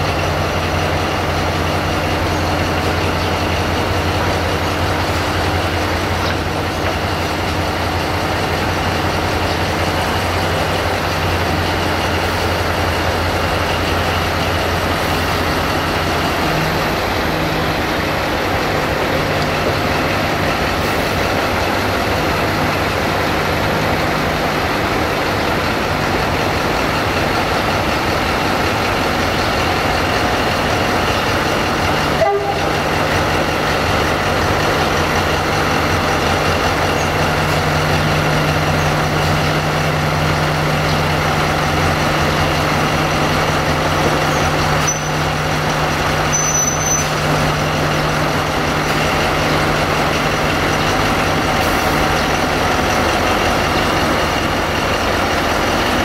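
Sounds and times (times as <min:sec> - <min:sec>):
locomotive engine running: 0:00.0 - 0:56.0.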